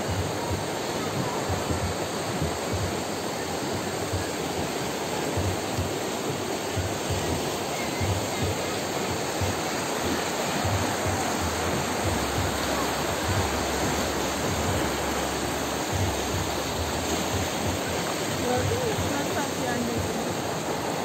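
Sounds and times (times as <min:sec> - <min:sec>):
river rushing over stones: 0:00.0 - 0:21.0.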